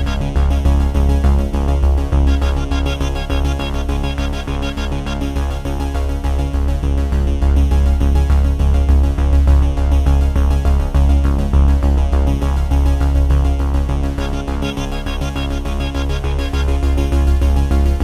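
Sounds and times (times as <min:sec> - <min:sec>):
electronic music with bass beat: 0:00.0 - 0:18.0.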